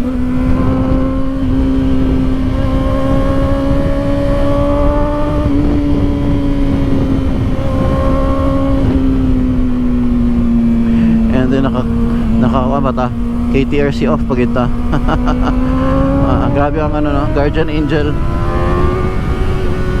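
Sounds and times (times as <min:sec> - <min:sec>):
motorcycle engine at high revs: 0:00.0 - 0:20.0
wind rush: 0:00.0 - 0:20.0.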